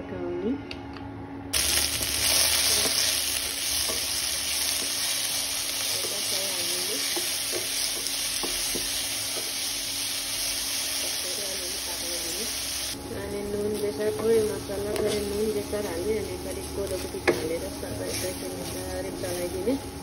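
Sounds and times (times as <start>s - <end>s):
spices sizzling in hot oil: 1.6s - 20.0s.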